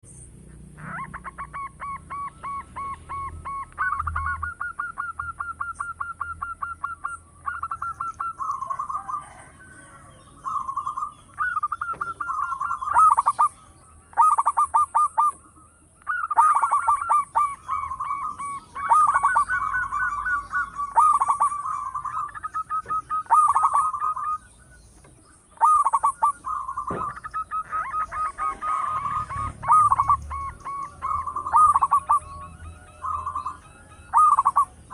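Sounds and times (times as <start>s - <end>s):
doves cooing: 0.2s - 34.9s.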